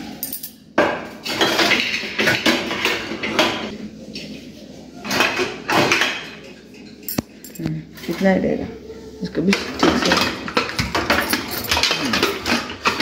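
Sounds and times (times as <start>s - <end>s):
metal pots clattering: 0.0s - 3.7s, 5.0s - 8.4s, 9.4s - 13.0s.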